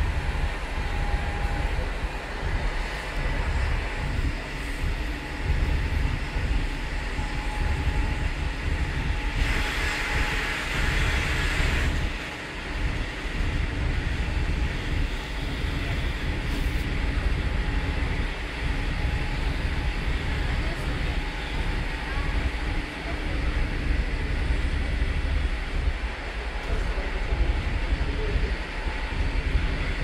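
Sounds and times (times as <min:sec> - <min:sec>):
train rumbling along track: 0:00.0 - 0:30.0.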